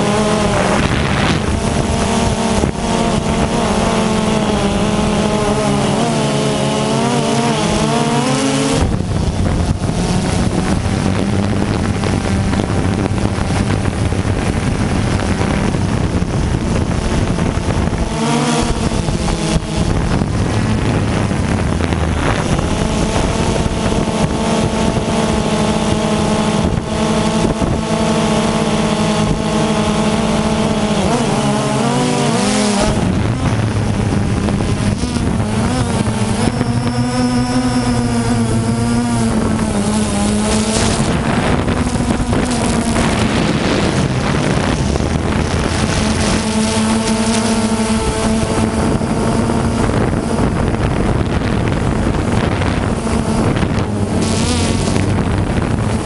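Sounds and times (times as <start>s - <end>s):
drone motors buzzing: 0.0s - 56.0s.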